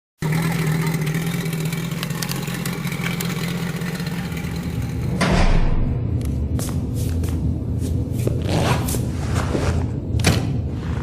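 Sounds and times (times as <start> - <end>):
vehicle engine humming: 0.2 - 11.0.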